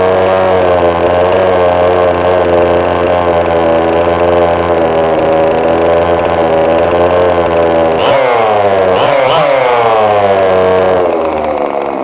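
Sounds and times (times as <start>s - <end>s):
small engine at high revs: 0.0s - 12.0s.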